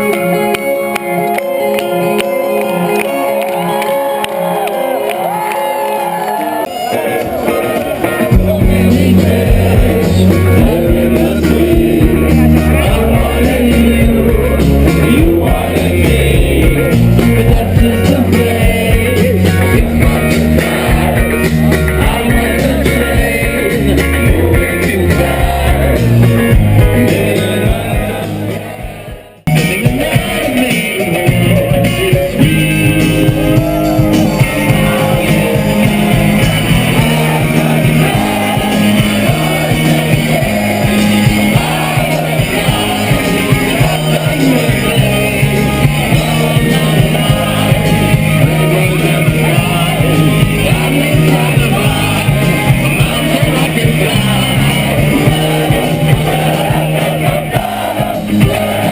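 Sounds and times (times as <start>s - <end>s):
rock music with singing: 0.0s - 58.9s.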